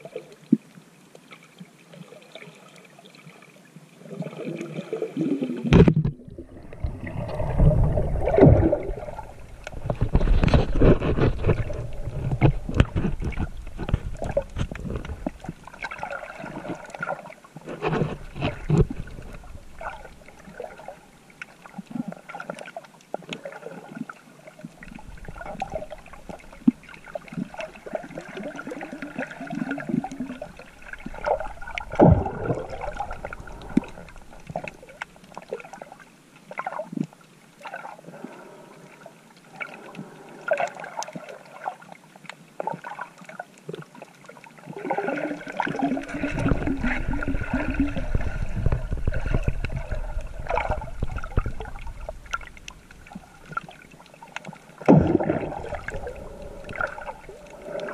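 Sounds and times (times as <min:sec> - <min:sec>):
water sloshing and gurgling: 0:00.0 - 0:57.9.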